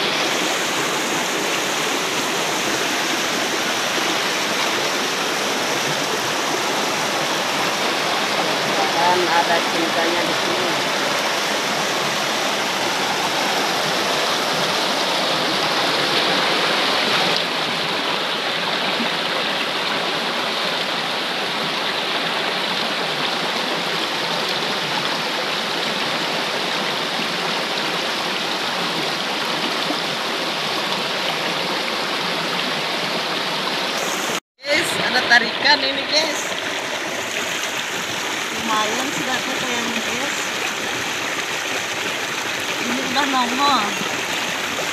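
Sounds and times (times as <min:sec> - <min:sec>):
stream flowing over rocks: 0:00.0 - 0:44.9.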